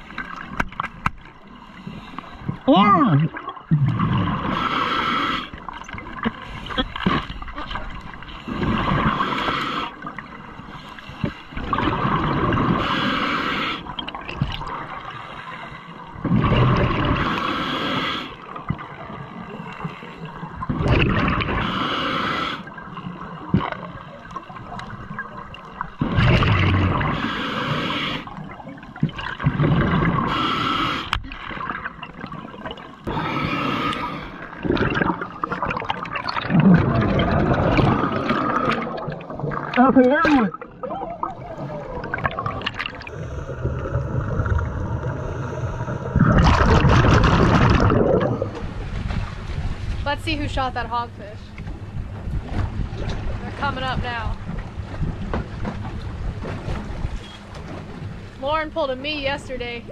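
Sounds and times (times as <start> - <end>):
underwater exhaled bubbles gurgling: 0.0 - 49.0.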